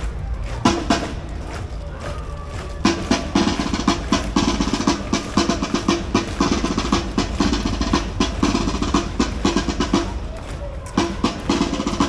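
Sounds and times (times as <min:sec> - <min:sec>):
marching drums beating: 0:00.0 - 0:12.0.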